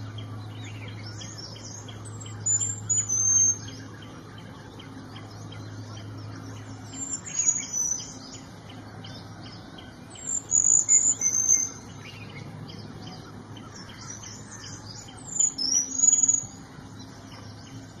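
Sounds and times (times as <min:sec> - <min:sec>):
bird singing high whistled notes: 0:00.0 - 0:08.5, 0:09.1 - 0:13.3, 0:13.9 - 0:16.6
low hum: 0:00.0 - 0:18.0.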